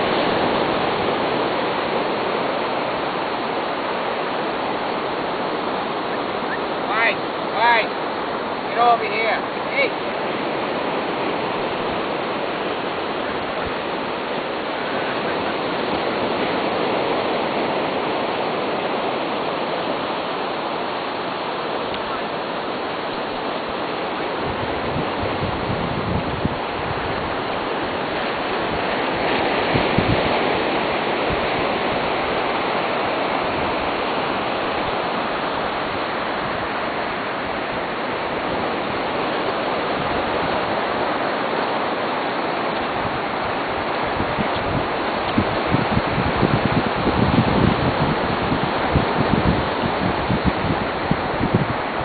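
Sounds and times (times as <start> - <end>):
seawater washing over sand: 0.0 - 52.0.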